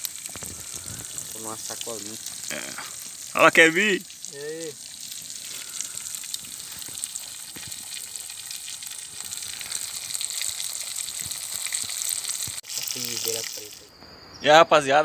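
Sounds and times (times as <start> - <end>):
fish frying in hot oil: 0.0 - 13.9
oil popping: 0.0 - 13.9.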